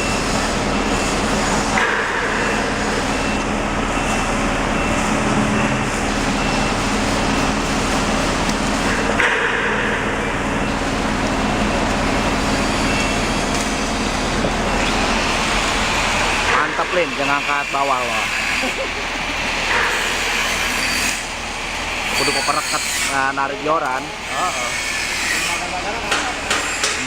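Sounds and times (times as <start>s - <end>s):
truck engine humming: 0.0s - 22.1s.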